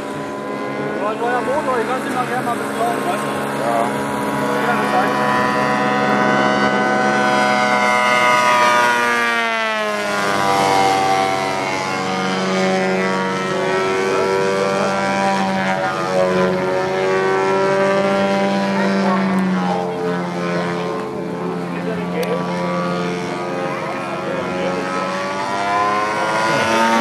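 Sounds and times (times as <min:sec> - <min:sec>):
model airplane engine: 0:00.0 - 0:27.0.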